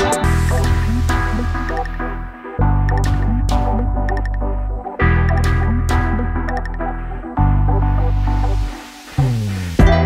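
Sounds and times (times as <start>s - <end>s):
music with sustained low tones: 0.0s - 10.0s.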